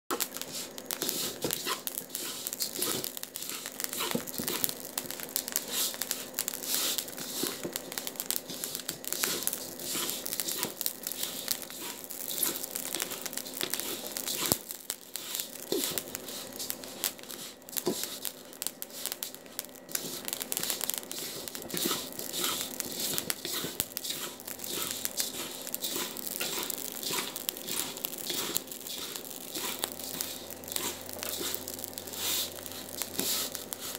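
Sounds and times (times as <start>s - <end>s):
seeds rustling in a pan: 0.1s - 33.9s
small crackling clicks: 0.1s - 33.9s.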